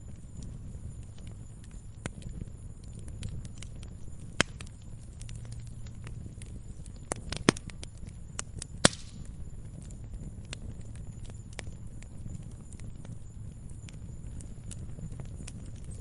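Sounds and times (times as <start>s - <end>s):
campfire crackling and popping: 0.0s - 16.0s
low rumble of flame: 0.0s - 16.0s.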